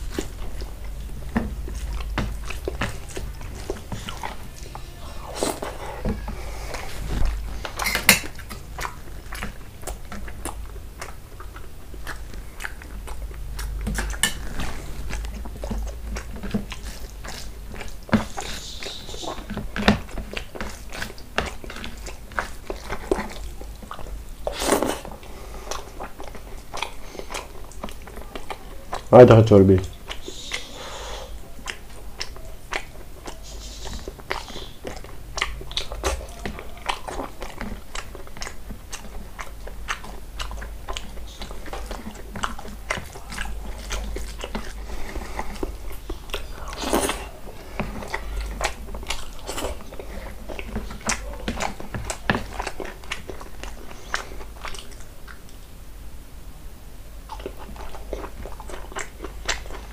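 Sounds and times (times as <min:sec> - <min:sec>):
person chewing and smacking: 0:00.0 - 0:55.7, 0:57.2 - 0:59.9.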